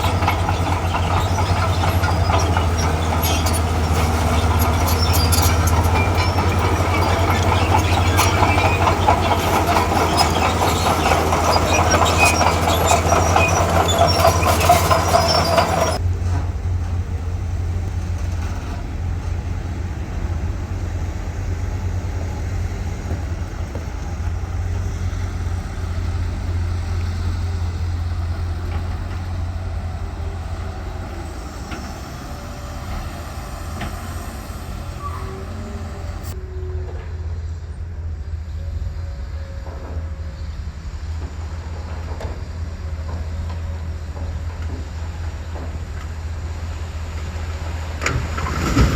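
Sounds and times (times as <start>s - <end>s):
diesel engine drone: 0.0s - 48.9s
steel tracks clanking and rattling: 0.0s - 48.9s.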